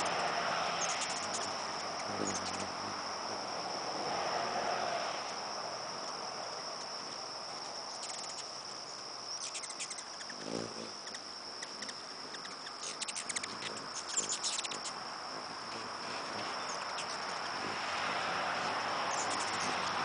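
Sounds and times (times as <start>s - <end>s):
hummingbirds chattering: 0.0s - 4.2s, 5.3s - 18.0s, 18.6s - 20.0s
high-pitched insect trill: 0.0s - 20.0s.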